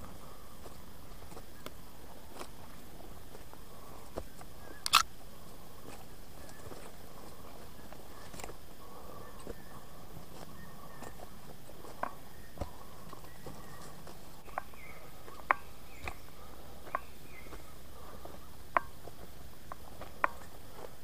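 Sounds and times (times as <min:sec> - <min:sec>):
faint steady background noise: 0:00.0 - 0:21.0
footsteps on forest trail: 0:00.0 - 0:21.0.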